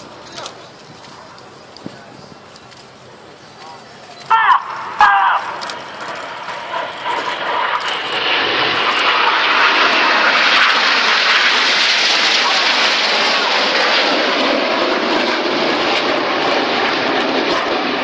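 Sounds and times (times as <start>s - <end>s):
jets flying past: 0.0s - 18.0s.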